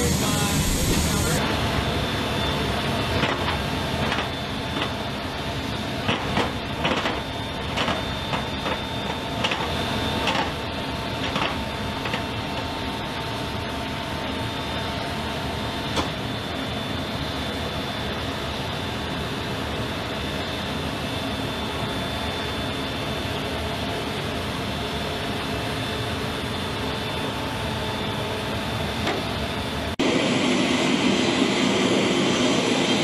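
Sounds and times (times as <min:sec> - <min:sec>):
mechanical whine: 0:00.0 - 0:33.0.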